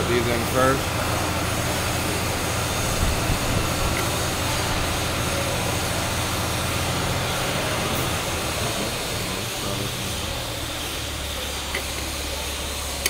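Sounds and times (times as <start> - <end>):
machine drone with hiss: 0.0 - 13.0.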